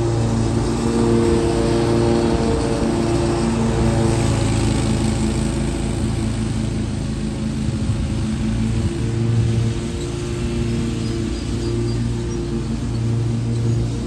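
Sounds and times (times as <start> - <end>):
mower engine running: 0.0 - 14.0.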